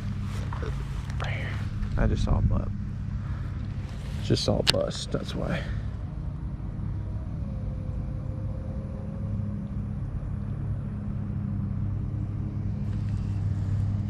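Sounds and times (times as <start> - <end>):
low motor hum: 0.0 - 14.0
low rumble: 0.0 - 14.0.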